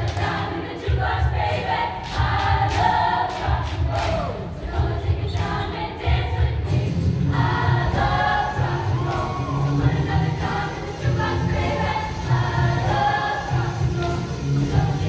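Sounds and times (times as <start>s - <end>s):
accompaniment with a steady beat: 0.0s - 15.0s
choir singing: 0.0s - 15.0s.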